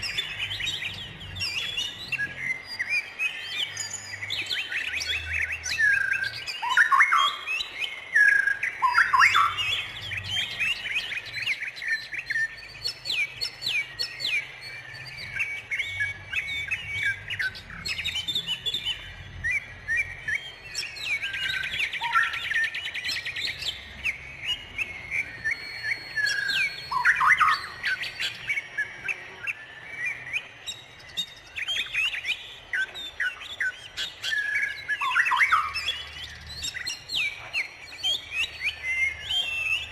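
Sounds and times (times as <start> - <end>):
fast bird trill: 0.0 - 39.9
songbirds chirping: 0.0 - 39.9.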